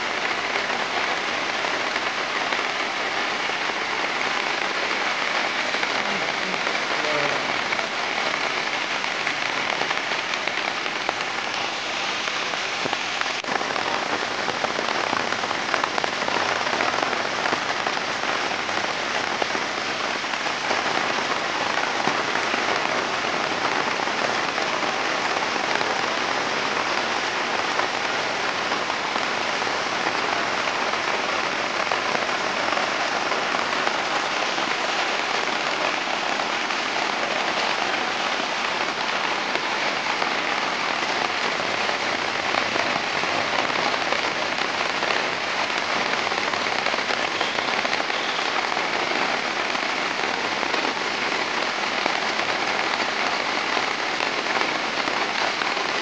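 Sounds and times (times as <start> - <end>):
heavy rain on flooded road: 0.0 - 56.0.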